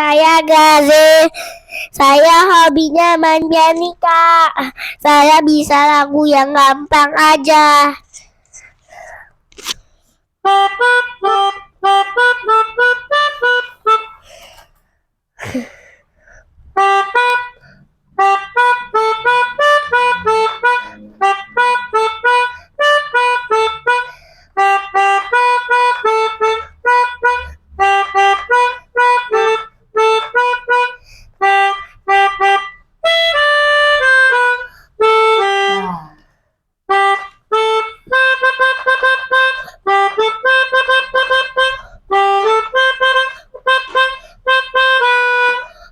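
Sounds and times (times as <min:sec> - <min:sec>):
melodica playing bouncy tune: 0:00.0 - 0:08.0, 0:10.4 - 0:14.6, 0:16.3 - 0:36.0, 0:36.9 - 0:45.9.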